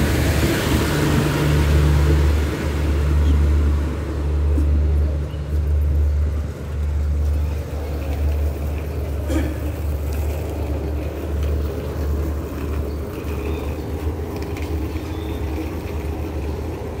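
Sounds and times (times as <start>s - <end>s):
diesel locomotive engine rumbling: 0.0s - 17.0s.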